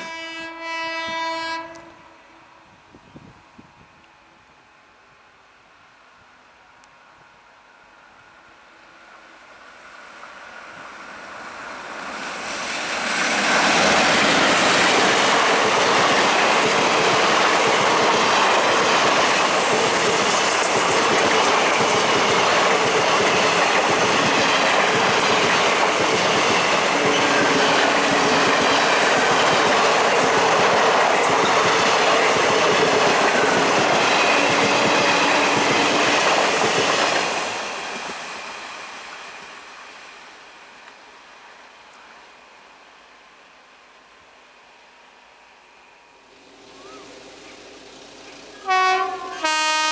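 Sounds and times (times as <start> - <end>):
train passing at speed: 0.0 - 4.4, 7.6 - 49.9.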